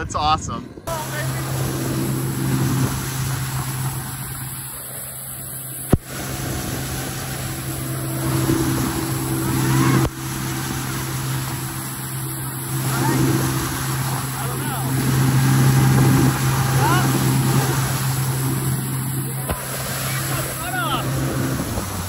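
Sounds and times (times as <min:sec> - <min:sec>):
wind and water noise: 0:00.0 - 0:22.0
boat motor drone: 0:00.7 - 0:22.0
faint rising whine: 0:00.9 - 0:22.0.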